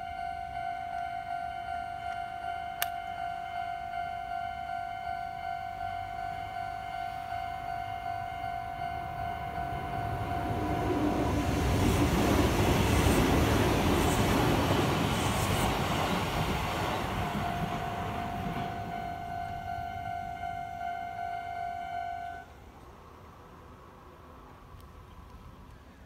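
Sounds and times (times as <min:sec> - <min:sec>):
level-crossing warning bell: 0:00.0 - 0:13.9, 0:15.6 - 0:22.6
electric train passing: 0:00.0 - 0:26.0.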